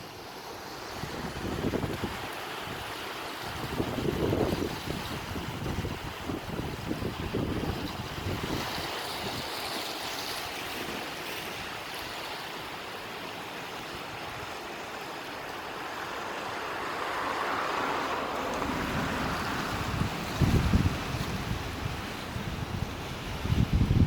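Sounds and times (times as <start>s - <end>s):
waves washing onto beach: 0.0s - 24.0s.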